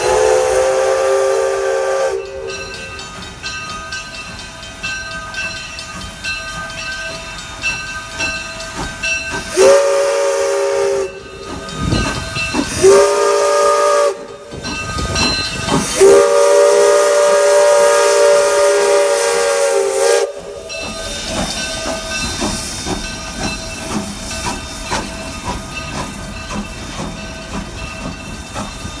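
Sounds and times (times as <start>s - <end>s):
locomotive rhythmic beat: 0.0s - 29.0s
steam hiss: 0.0s - 29.0s
steam locomotive chime whistle: 0.0s - 29.0s.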